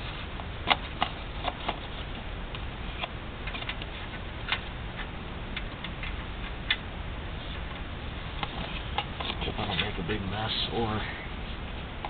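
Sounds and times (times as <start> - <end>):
steady low background noise: 0.0 - 12.0.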